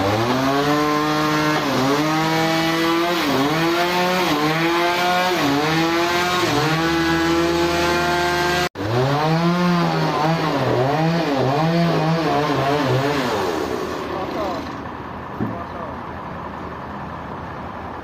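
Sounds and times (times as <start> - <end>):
chainsaw cutting: 0.0 - 14.9.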